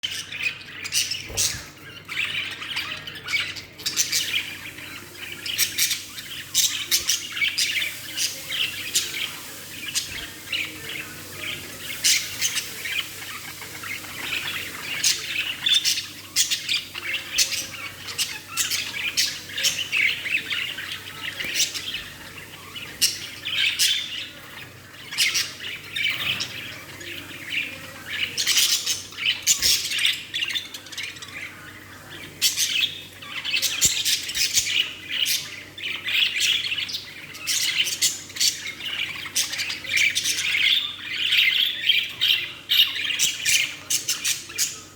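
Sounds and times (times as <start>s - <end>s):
budgerigar chirping and squawking: 0.0s - 44.9s.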